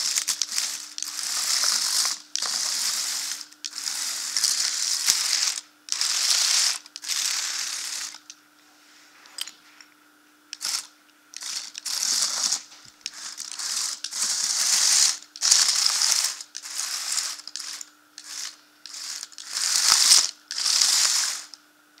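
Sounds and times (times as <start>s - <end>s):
plastic tracks rattling over bricks: 0.0s - 8.3s, 10.6s - 21.6s
toy motors and gears whirring: 0.0s - 8.4s, 10.5s - 21.6s.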